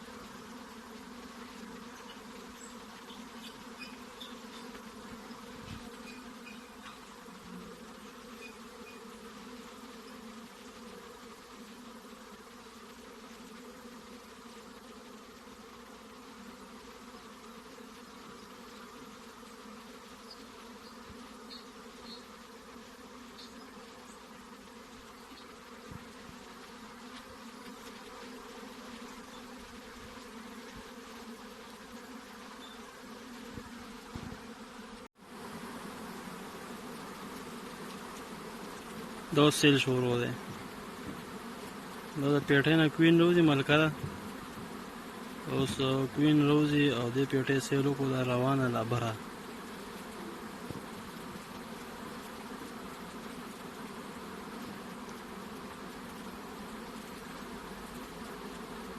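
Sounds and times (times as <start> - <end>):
bees buzzing: 0.0 - 58.9.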